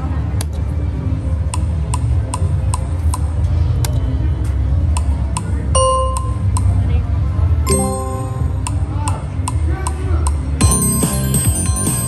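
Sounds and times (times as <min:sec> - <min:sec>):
low hum of casino floor: 0:00.0 - 0:12.0.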